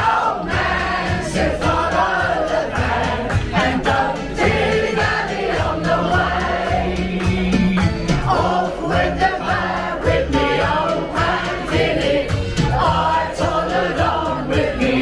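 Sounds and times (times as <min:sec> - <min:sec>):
group singing along: 0:00.0 - 0:15.0
pop music with steady beat: 0:00.0 - 0:15.0.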